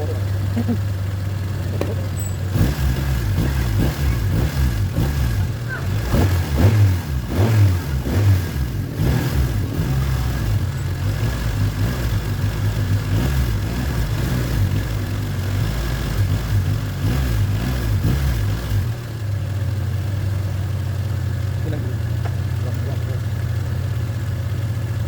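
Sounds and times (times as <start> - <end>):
car engine blipping and idling: 0.0 - 25.0.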